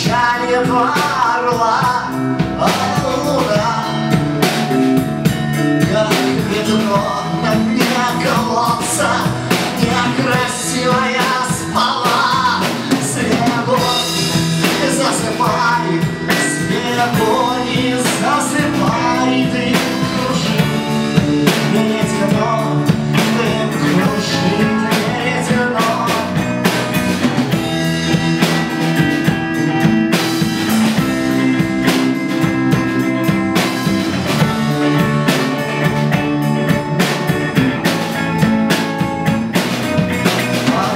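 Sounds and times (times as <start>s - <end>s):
blues rock band music: 0.0s - 40.9s.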